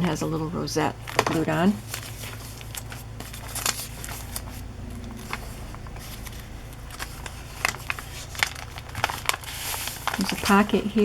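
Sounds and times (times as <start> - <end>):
paper pages rustling: 1.0 - 11.0.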